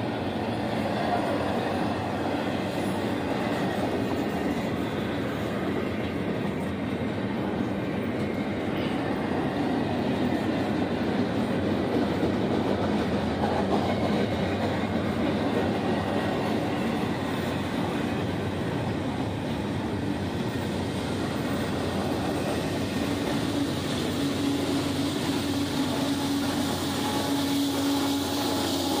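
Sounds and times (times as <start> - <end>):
train rumbling and rattling past: 0.0 - 29.0.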